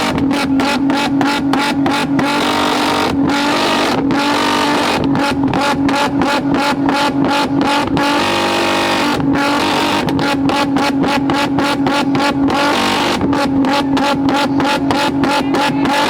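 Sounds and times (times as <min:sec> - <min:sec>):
car engine bouncing off rev limiter: 0:00.0 - 0:16.0.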